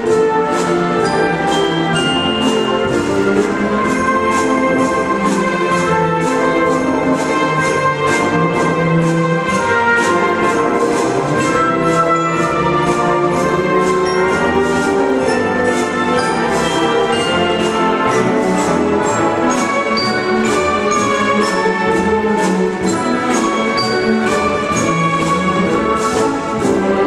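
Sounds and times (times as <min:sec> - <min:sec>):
orchestral music with steady beat: 0:00.0 - 0:27.0.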